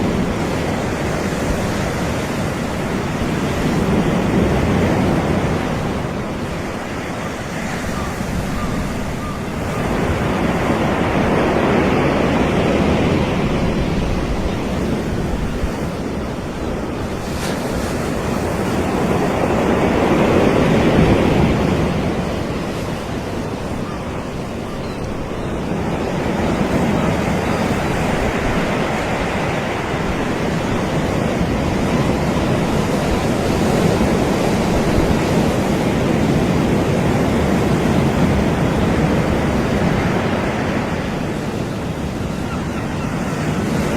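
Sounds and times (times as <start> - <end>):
sea waves washing onto beach: 0.0 - 43.9.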